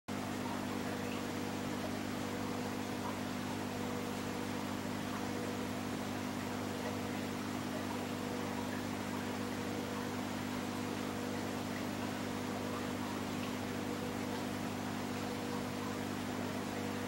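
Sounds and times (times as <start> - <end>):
electrical hum: 0.1 - 17.0.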